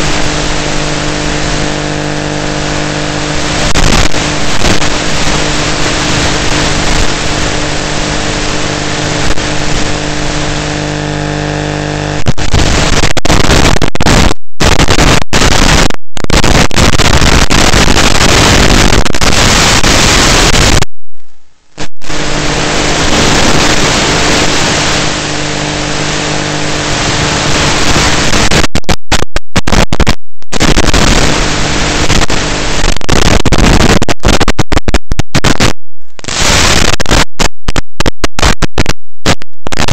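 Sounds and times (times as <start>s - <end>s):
steady multi-tone hum: 0.0s - 34.8s
loud static hiss: 0.0s - 39.9s.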